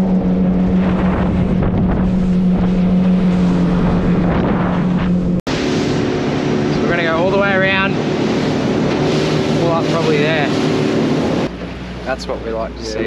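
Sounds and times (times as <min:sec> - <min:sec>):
wind buffeting microphone: 0:00.0 - 0:12.8
outboard motor running: 0:00.0 - 0:13.0
water rushing: 0:00.0 - 0:13.0.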